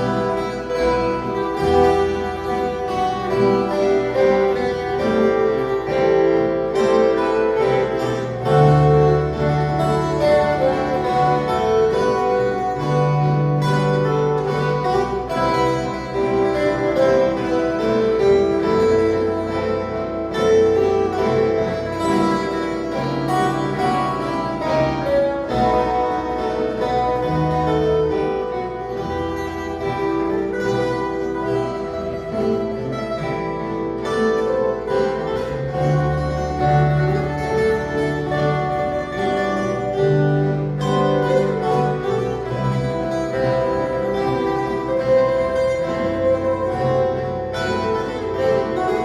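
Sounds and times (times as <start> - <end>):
plucked steel-string guitars ensemble: 0.0 - 49.0.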